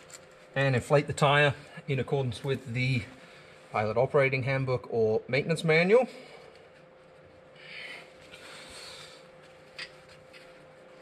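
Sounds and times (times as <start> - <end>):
thin steady hum: 0.0 - 11.0.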